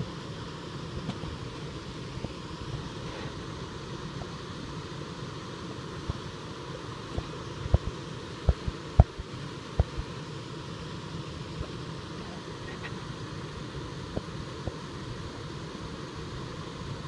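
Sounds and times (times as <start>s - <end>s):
water rushing over weir: 0.0s - 17.0s.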